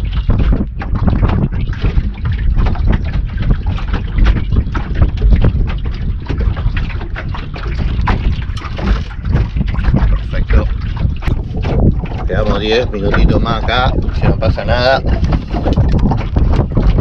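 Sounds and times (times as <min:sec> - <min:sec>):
knocks on boat: 0:00.0 - 0:17.0
water lapping against hull: 0:00.0 - 0:17.0
wind buffeting microphone: 0:00.0 - 0:17.0.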